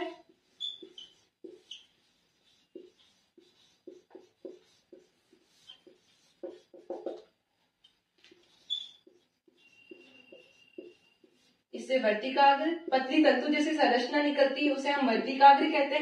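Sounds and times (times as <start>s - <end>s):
marker writing on whiteboard: 0.0s - 14.4s.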